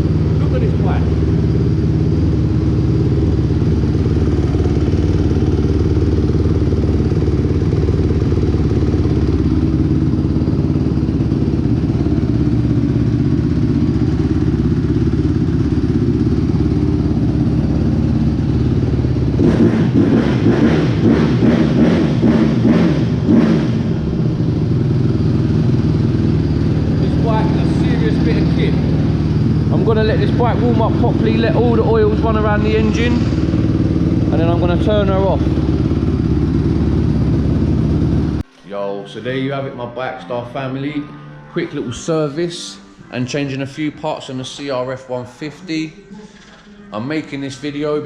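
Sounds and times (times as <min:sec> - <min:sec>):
motorcycle engine idling: 0:00.0 - 0:38.5.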